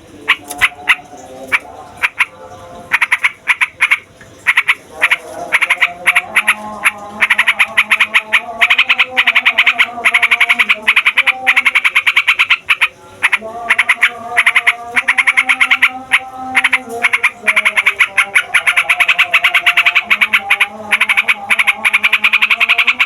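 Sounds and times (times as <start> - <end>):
bird song of sharp notes: 0.0 - 23.0.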